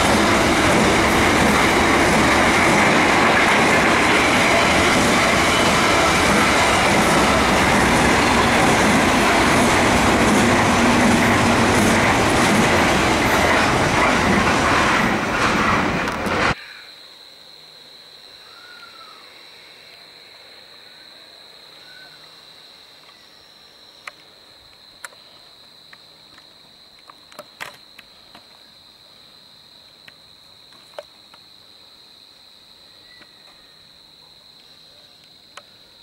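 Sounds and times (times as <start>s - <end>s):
insects chirring: 0.0s - 14.9s, 16.5s - 36.0s.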